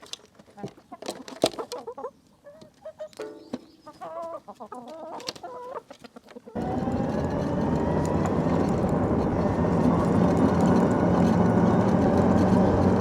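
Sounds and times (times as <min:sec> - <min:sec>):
chickens clucking: 0:00.5 - 0:13.0.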